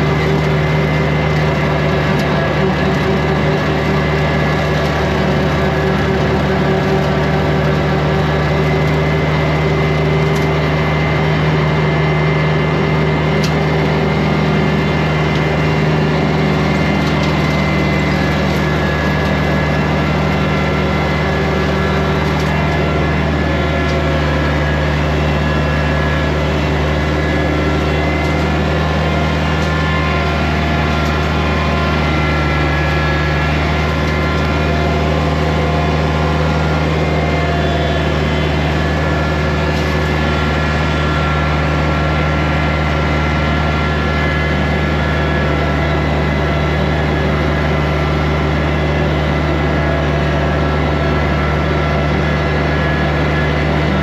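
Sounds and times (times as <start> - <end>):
brush cutter mowing grass: 0.0 - 54.0
tractor engine running: 0.0 - 54.0.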